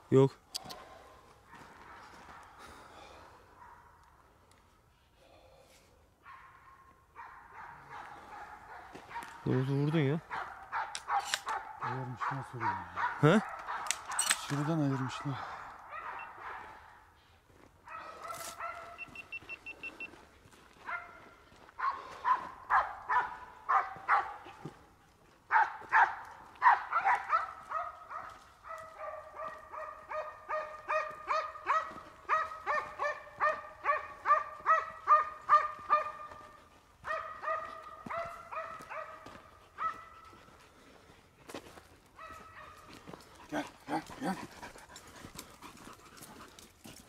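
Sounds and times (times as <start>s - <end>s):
hunting dogs barking: 0.7s - 4.3s, 6.2s - 17.2s, 17.8s - 20.0s, 20.8s - 24.9s, 25.5s - 40.8s, 42.1s - 46.3s.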